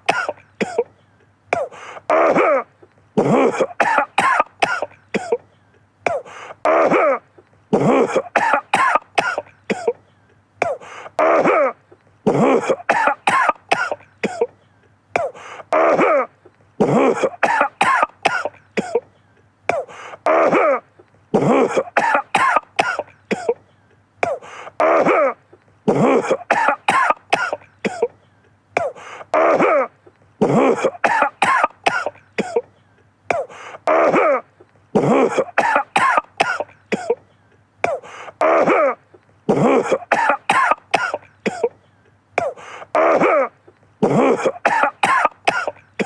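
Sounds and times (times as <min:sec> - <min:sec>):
man coughing: 0:00.0 - 0:14.6, 0:15.2 - 0:28.2, 0:28.8 - 0:41.8, 0:42.4 - 0:46.0.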